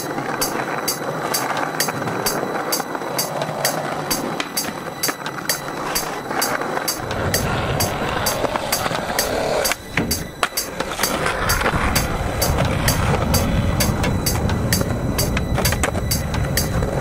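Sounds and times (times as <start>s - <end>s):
music track with hi-hat: 0.0s - 17.0s
skateboard wheels rolling on pavement: 0.0s - 17.0s.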